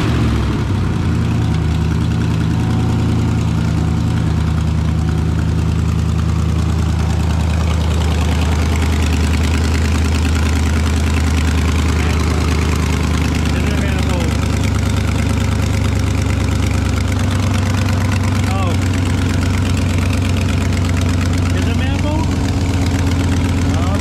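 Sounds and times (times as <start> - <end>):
car engine starting and idling: 0.0 - 24.0.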